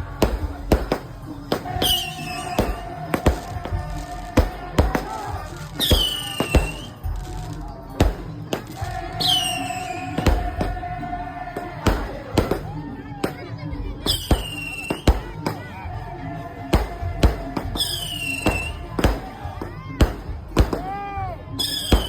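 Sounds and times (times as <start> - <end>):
drum and slit-drum strikes: 0.0 - 15.7, 16.7 - 22.0.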